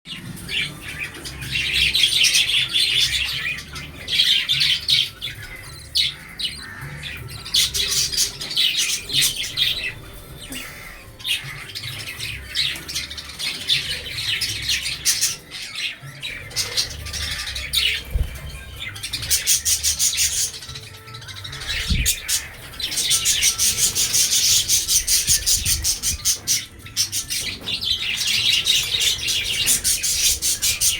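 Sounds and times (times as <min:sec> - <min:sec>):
budgerigars chattering and squawking: 0:00.1 - 0:30.9.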